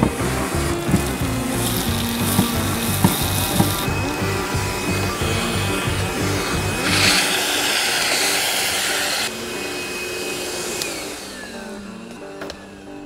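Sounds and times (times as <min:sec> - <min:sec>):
vacuum hose sucking air: 0:00.0 - 0:13.0
vacuum motor whine winding down: 0:00.0 - 0:13.0.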